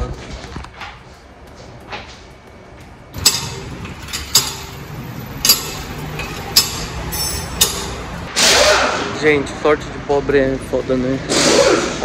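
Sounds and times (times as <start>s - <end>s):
low workshop hum: 0.0s - 11.2s.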